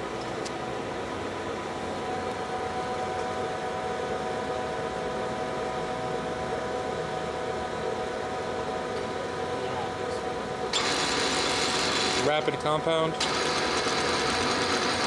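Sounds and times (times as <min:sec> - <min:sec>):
lathe gearing whine: 0:00.0 - 0:15.0
mechanical hum: 0:00.0 - 0:15.0.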